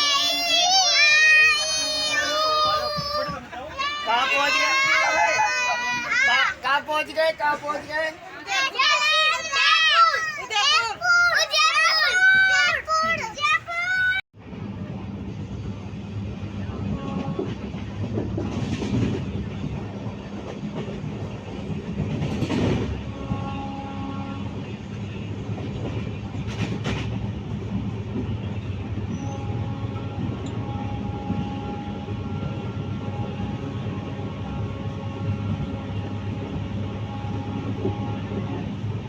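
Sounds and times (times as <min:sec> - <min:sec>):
train rumble and wheel clatter: 0:00.0 - 0:39.0.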